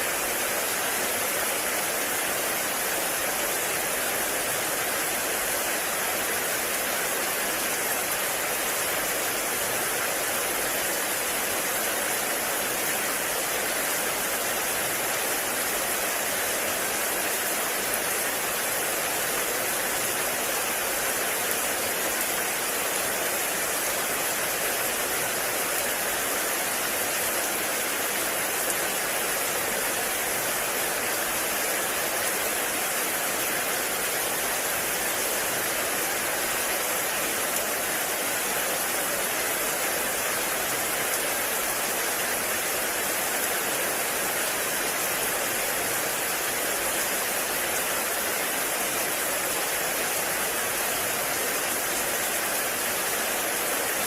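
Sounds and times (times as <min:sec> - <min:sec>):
heavy rain in a forest: 0:00.0 - 0:54.0.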